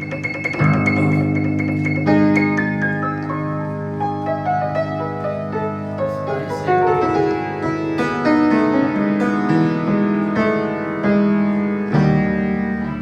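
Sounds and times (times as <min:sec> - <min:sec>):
piano melody over low chords: 0:00.0 - 0:13.0.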